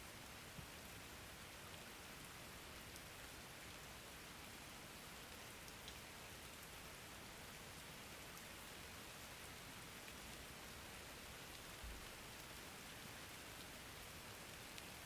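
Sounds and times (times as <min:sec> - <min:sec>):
faint rain falling: 0:00.0 - 0:15.0.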